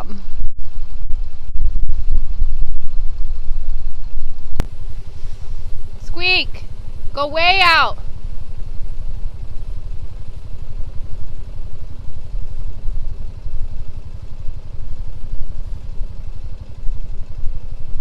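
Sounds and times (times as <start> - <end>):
small engine running: 2.2 - 18.0.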